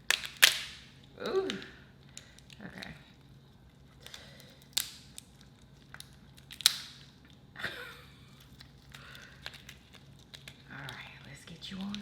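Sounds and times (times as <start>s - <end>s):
lobster shell cracking: 0.0s - 12.0s.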